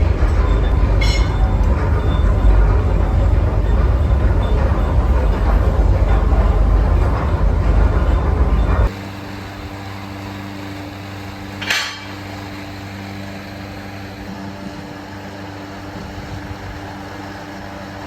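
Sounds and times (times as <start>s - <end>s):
workshop machinery hum: 0.0s - 18.0s.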